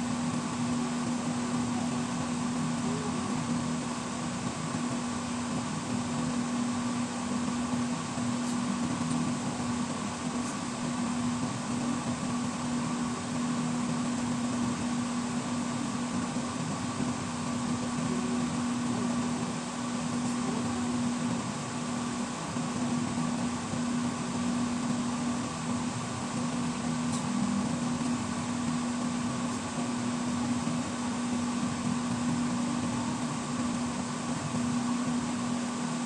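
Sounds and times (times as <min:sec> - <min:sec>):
mechanical hum: 0:00.0 - 0:36.0.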